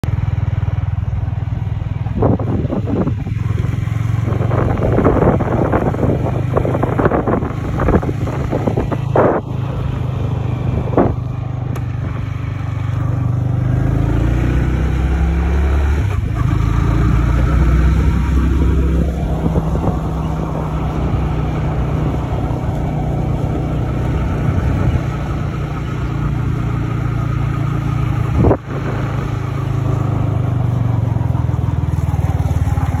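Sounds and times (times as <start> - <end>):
motorcycle engine running: 0.0 - 33.0
wind buffeting microphone: 1.4 - 33.0.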